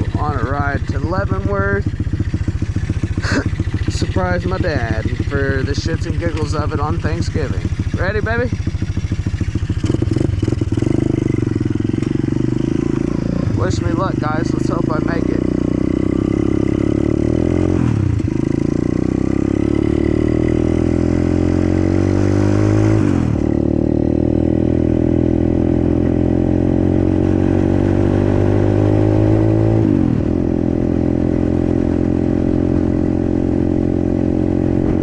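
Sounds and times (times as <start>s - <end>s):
dirt bike engine accelerating: 0.0s - 35.0s.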